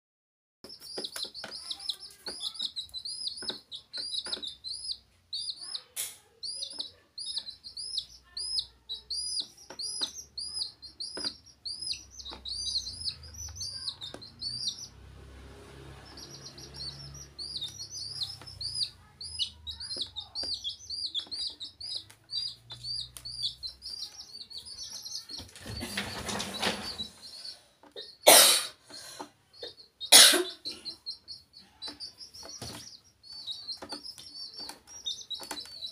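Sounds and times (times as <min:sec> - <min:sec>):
baby chicks peeping: 0:00.6 - 0:35.9.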